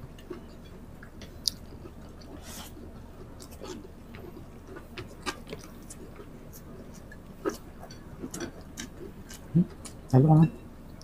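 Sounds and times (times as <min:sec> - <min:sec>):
wet chewing and lip-smacking: 0:00.1 - 0:10.2.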